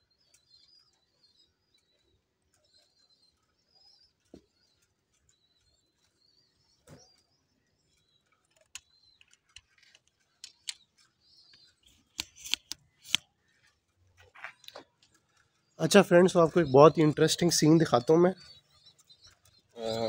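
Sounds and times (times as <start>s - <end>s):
faint high bird chirps: 0.0s - 20.0s
pigeons pecking on concrete: 0.0s - 20.0s.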